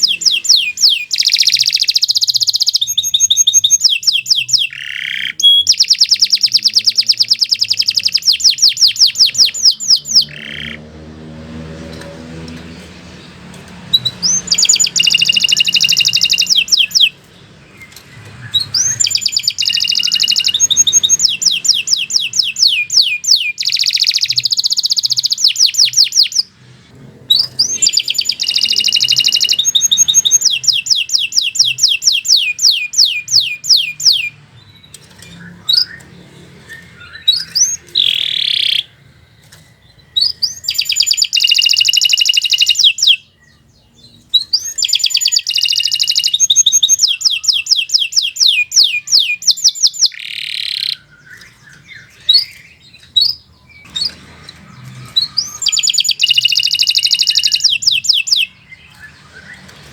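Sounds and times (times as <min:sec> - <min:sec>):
canary singing trills: 0:00.0 - 0:11.0, 0:11.8 - 0:59.9.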